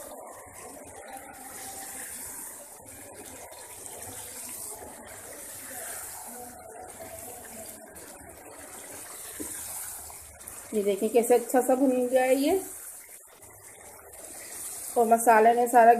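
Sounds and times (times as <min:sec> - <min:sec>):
food sizzling in a pot: 0:00.0 - 0:15.9.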